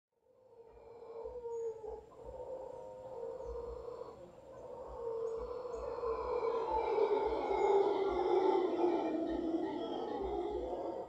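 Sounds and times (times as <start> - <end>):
howler monkeys howling: 0.2 - 11.0.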